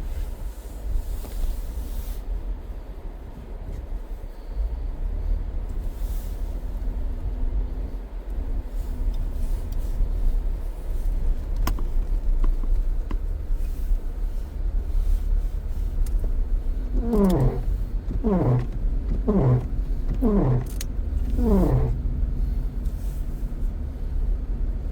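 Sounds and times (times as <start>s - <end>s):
car road rumble inside cabin: 0.0s - 24.9s.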